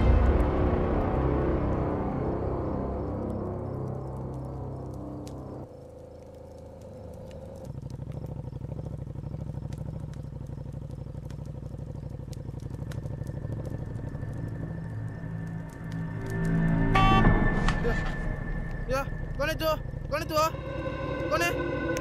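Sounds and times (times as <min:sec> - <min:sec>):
motorcycle engine idling: 0:00.0 - 0:16.4, 0:18.3 - 0:22.0
wood fire crackling: 0:00.0 - 0:22.0.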